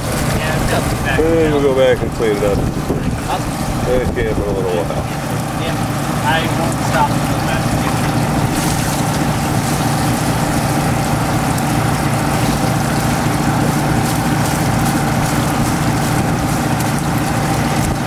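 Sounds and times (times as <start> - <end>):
engine-driven water pump running: 0.0 - 18.0
hose water splashing into tub: 0.0 - 18.0.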